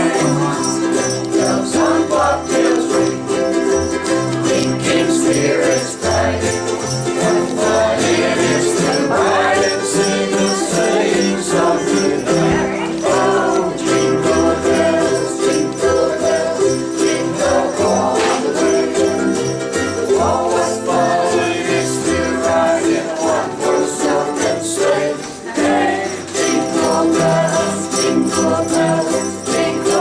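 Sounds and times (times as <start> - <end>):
jingle bells shaking: 0.0 - 30.0
ukuleles strumming: 0.0 - 30.0.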